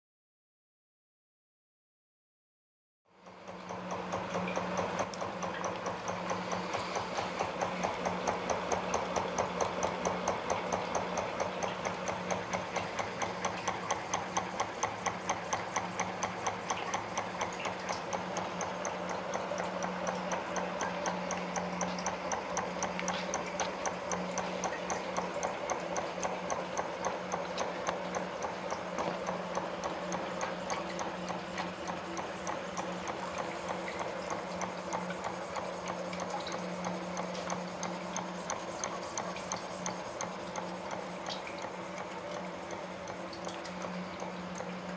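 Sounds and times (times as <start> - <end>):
stirling engine rhythmic clatter: 3.3 - 44.9.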